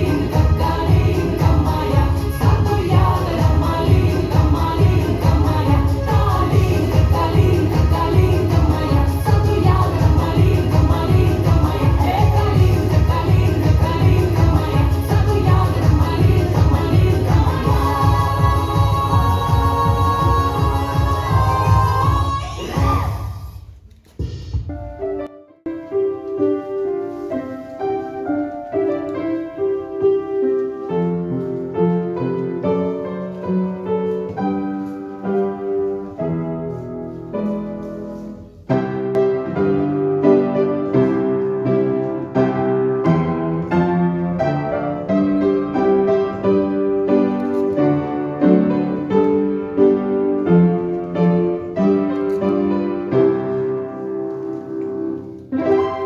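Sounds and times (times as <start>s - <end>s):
piano music: 0.0s - 23.3s, 24.6s - 56.0s.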